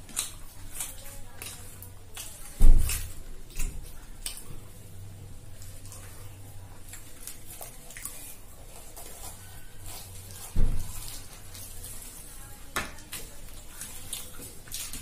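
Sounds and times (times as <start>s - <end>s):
fingers tearing bread: 0.0s - 4.8s, 5.5s - 15.0s
steady low hum: 0.0s - 14.7s.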